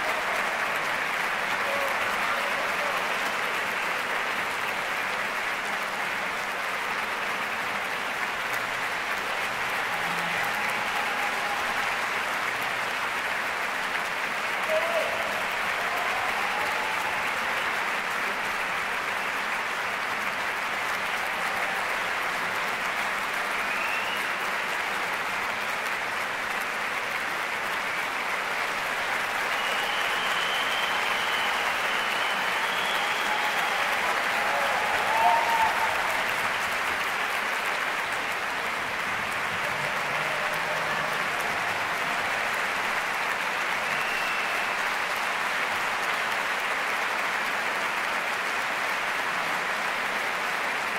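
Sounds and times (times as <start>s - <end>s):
audience applauding: 0.0s - 50.9s.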